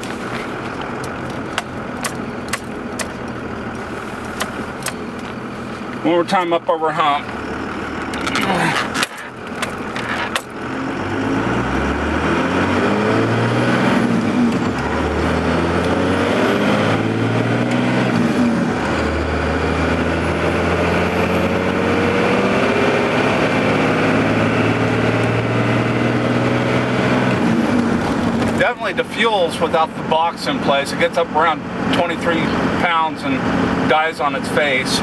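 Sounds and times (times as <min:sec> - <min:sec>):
diesel engine accelerating: 0:00.0 - 0:35.0.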